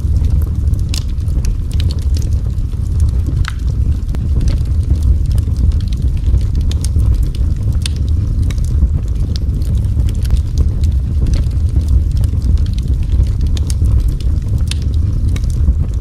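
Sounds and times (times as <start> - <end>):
fire crackling and popping: 0.0 - 16.0
fire roaring: 0.0 - 16.0.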